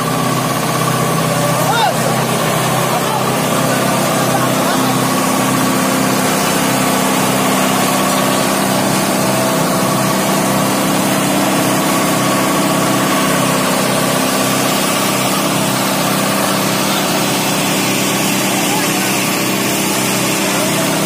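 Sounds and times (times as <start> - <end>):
fire truck engine running: 0.0 - 21.0.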